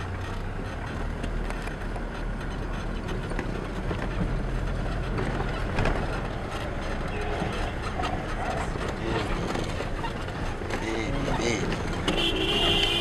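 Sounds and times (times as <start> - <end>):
car cabin road rumble: 0.0 - 13.0
knocks and rattles in car: 0.0 - 13.0.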